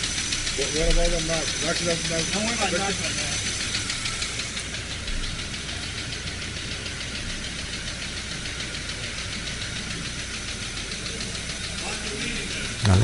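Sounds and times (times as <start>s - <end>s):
car engine idling with misfire: 0.0s - 13.0s
fast even ticking: 0.0s - 13.0s.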